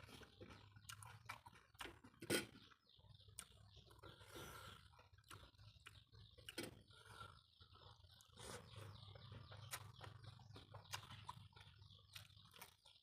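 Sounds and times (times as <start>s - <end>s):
person chewing softly: 0.0s - 13.0s.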